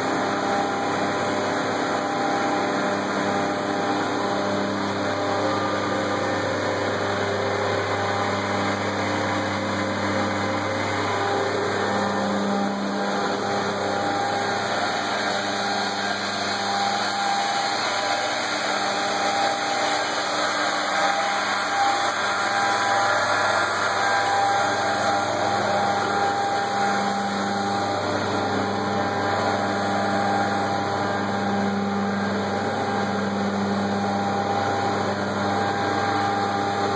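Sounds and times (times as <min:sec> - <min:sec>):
machine motor hum: 0:00.0 - 0:36.9.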